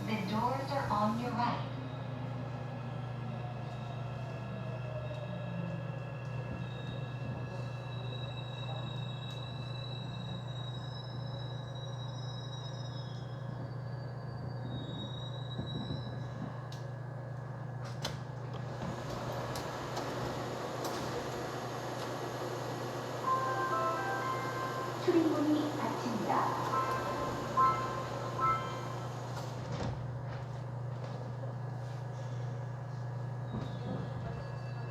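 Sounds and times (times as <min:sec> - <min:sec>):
train low hum: 0:00.0 - 0:34.9.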